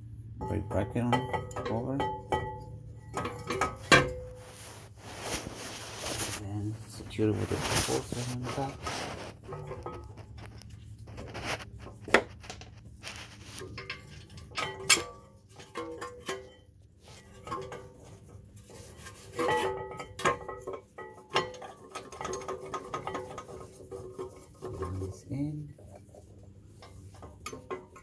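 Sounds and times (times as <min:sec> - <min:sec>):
metal clinks and scrapes: 0:00.4 - 0:28.0.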